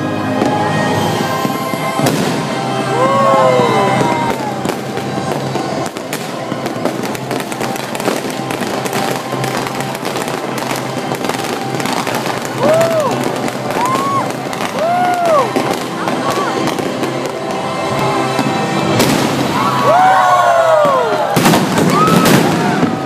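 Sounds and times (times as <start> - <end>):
fireworks bursting and crackling: 0.0 - 23.0
music playing: 0.0 - 23.0.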